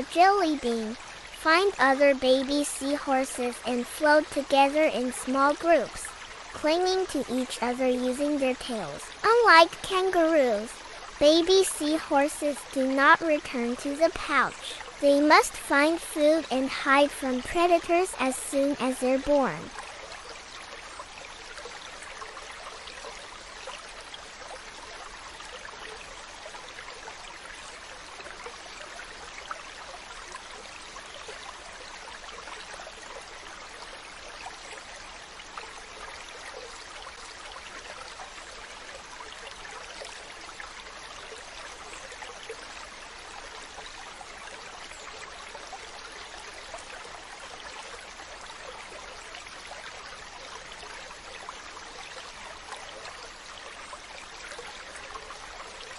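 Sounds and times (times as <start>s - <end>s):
trickling running water: 0.0s - 55.9s.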